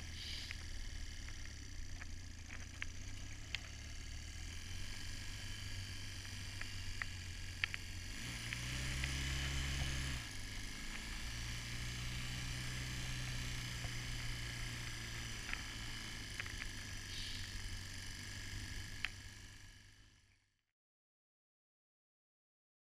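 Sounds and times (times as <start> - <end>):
vehicle engine droning: 0.0 - 20.2.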